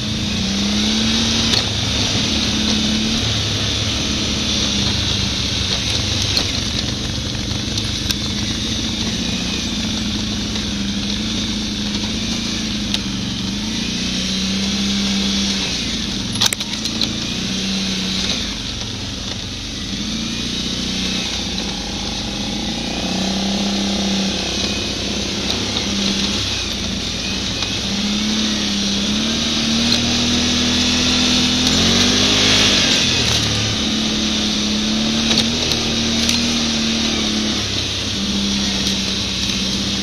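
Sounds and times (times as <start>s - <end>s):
quad engine revving: 0.0s - 40.0s.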